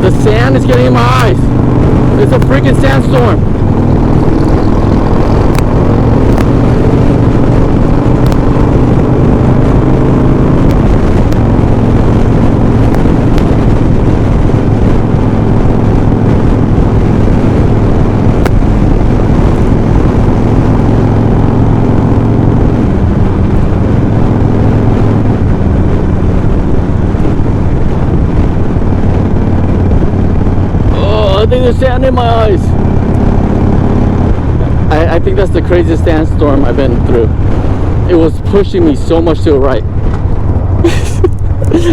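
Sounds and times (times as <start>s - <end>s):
motorcycle engine cruising: 0.0s - 41.9s
wind buffeting microphone: 0.0s - 41.9s.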